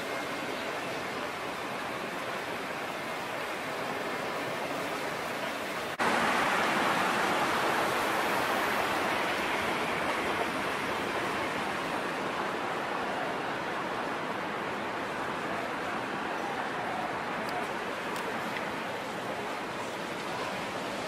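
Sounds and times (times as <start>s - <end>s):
street ambience hiss: 0.0s - 21.0s.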